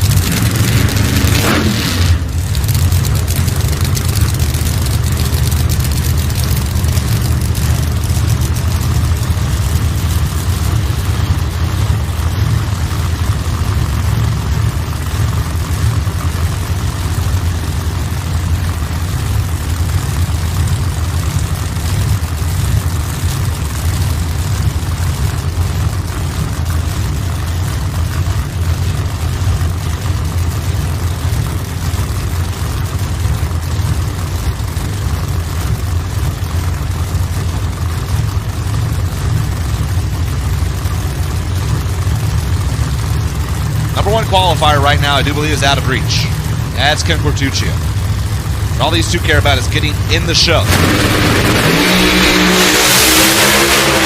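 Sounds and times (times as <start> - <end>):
engines idling with low rumble: 0.0 - 54.0.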